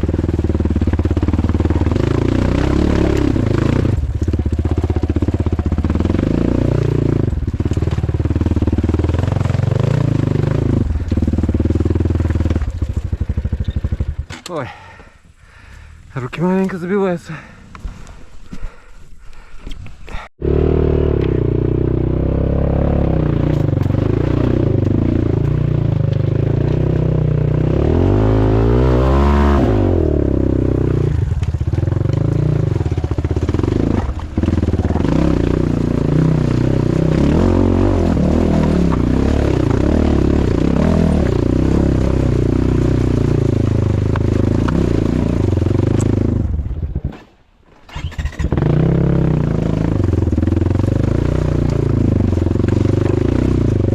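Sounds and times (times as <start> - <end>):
off-road motorcycle engine revving: 0.0 - 18.1, 20.1 - 47.2, 47.9 - 53.9.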